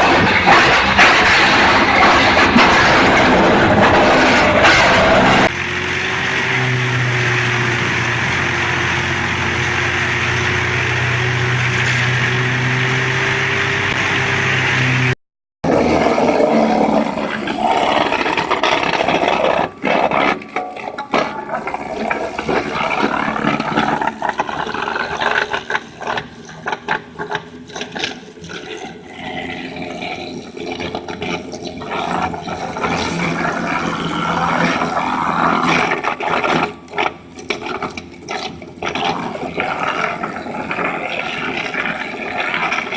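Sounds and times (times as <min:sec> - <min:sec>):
wood chipper humming: 0:00.0 - 0:42.9
wood crunching in chipper: 0:00.0 - 0:42.9.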